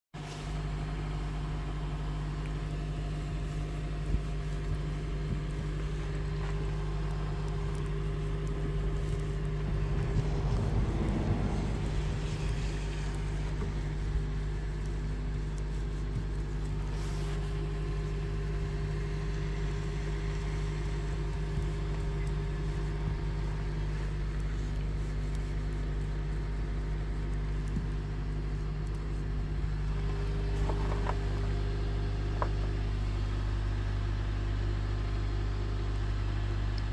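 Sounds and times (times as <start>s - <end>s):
engine idling hum: 0.2s - 36.9s.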